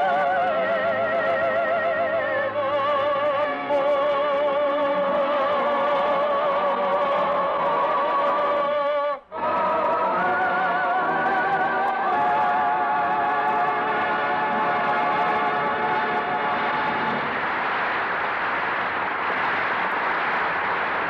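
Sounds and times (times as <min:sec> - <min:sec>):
operatic singing with orchestra: 0:00.0 - 0:17.2.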